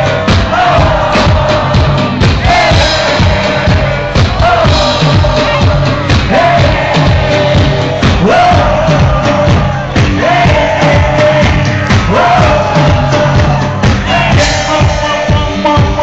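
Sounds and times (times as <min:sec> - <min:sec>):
drum kit beat: 0:00.0 - 0:16.0
live band playing dance music: 0:00.0 - 0:16.0.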